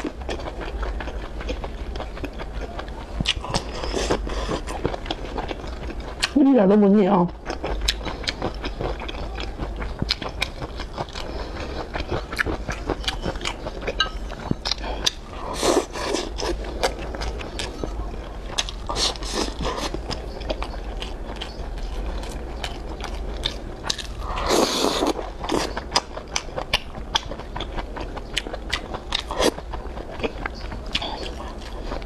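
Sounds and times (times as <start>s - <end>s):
chewing with wet mouth clicks: 0.0s - 6.4s, 7.3s - 32.0s.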